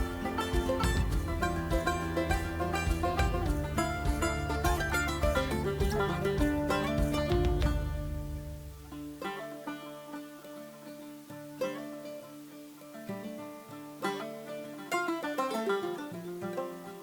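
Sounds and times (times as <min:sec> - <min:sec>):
upbeat banjo-like plucked tune: 0:00.0 - 0:17.0.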